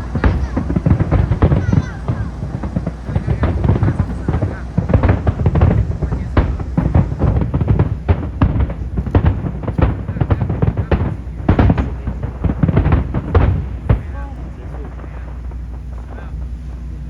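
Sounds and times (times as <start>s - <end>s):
fireworks exploding: 0.0s - 17.0s
low rumble: 0.0s - 17.0s.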